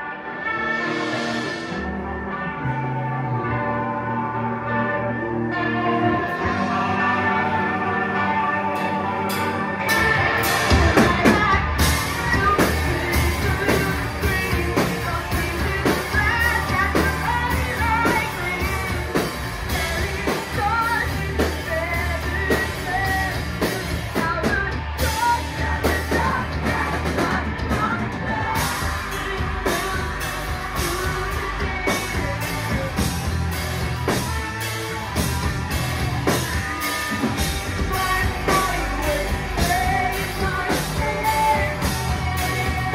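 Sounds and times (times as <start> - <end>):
person singing: 0.0 - 34.9, 36.2 - 42.9
rock band playing: 0.0 - 42.9.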